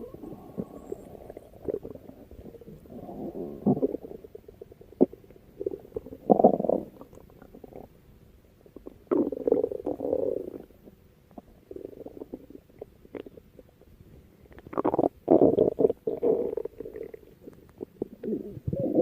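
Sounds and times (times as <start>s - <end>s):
stomach growling: 0.0s - 7.9s, 8.7s - 19.0s.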